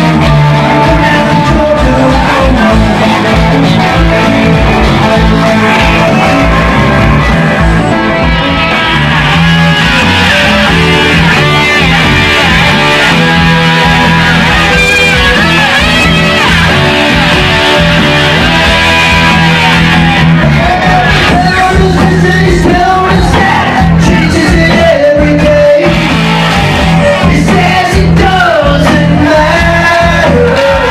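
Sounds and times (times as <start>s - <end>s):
lead electric guitar with string bends: 0.0s - 30.9s
live rock band backing: 0.0s - 30.9s.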